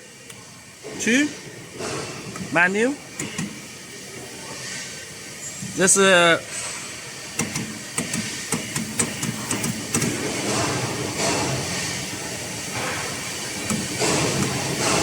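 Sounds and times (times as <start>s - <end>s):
machine hissing and rushing: 1.2s - 15.0s.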